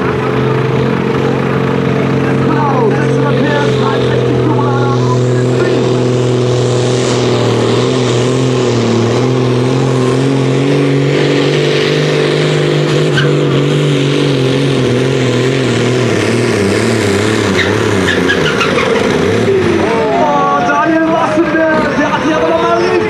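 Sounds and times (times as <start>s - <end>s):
tractor diesel engine at full power: 0.0s - 23.0s.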